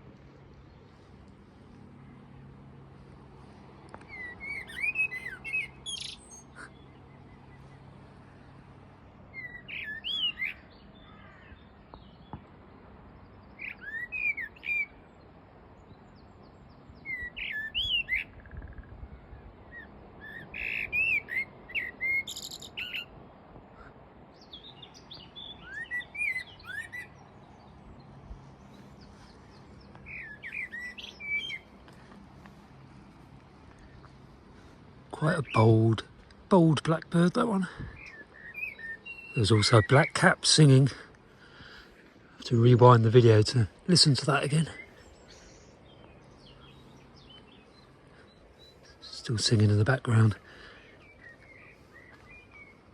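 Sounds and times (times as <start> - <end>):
blackbird singing: 3.9 - 8.6, 9.2 - 12.5, 13.1 - 52.9.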